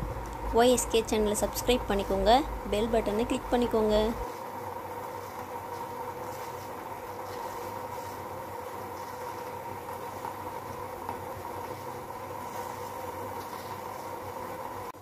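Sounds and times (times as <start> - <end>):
pot boiling with bubbling hiss: 0.0 - 15.0
steady hum: 0.0 - 15.0.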